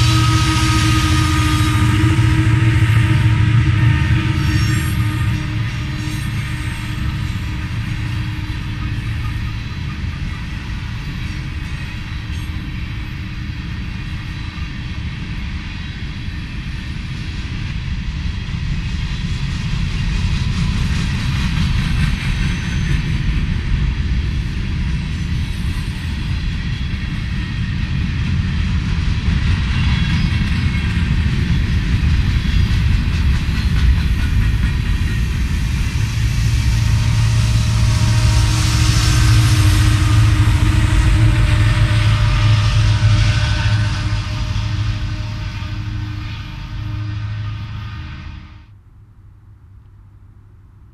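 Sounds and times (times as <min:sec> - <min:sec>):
freight train rumbling on rails: 0:00.0 - 0:48.8
diesel locomotive engine drone: 0:00.0 - 0:50.9.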